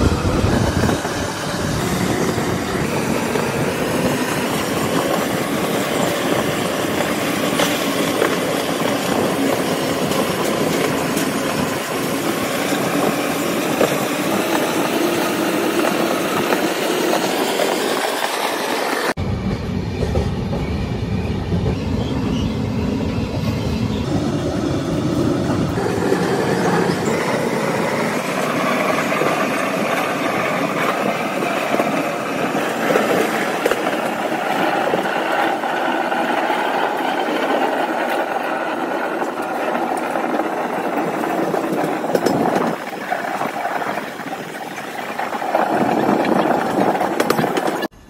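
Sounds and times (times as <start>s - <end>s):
passenger train rumbling: 0.0s - 48.0s.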